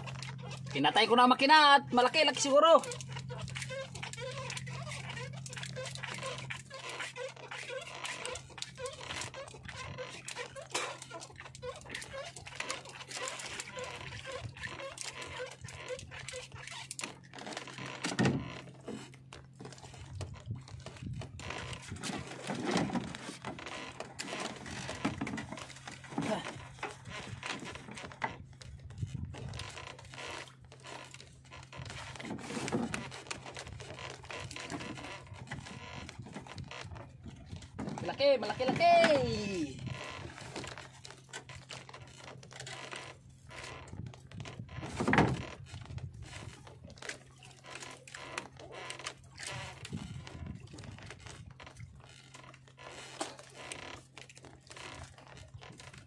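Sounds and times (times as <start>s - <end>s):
fishing line clicks and rustles: 1.8s - 56.0s.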